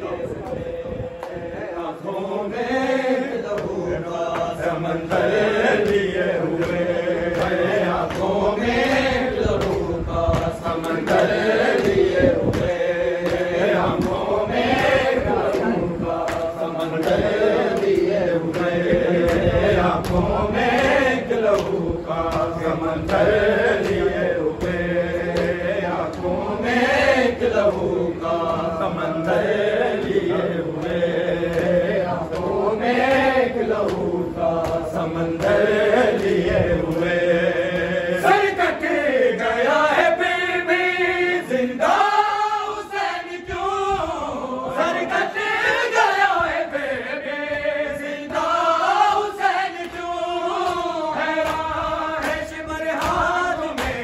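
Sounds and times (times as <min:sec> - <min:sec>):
men chanting a lament: 0:00.0 - 0:54.0.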